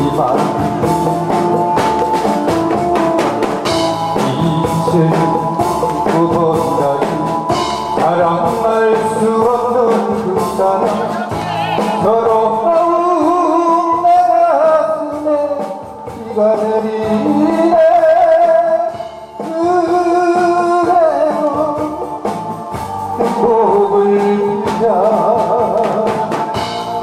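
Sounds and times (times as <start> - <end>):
man singing with vibrato: 0.0 - 1.8, 3.9 - 27.0
instrumental accompaniment: 0.0 - 27.0.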